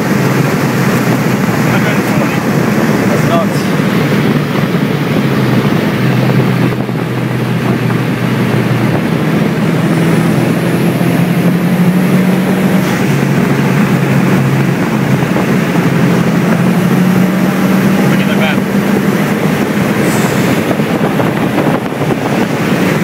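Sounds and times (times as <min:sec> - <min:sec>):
car engine at highway speed: 0:00.0 - 0:23.0
road and wind noise: 0:00.0 - 0:23.0.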